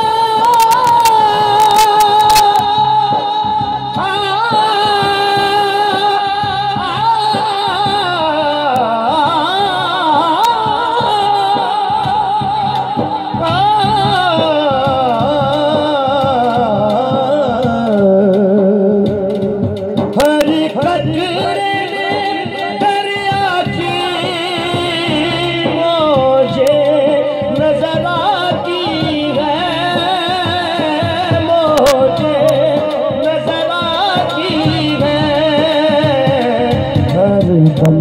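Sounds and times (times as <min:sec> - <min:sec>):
instrumental accompaniment: 0:00.0 - 0:38.0.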